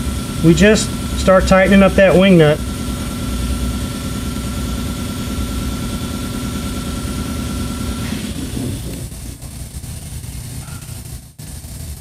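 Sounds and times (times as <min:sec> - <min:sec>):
machine engine rumble: 0:00.0 - 0:12.0
thin high whine: 0:00.0 - 0:12.0.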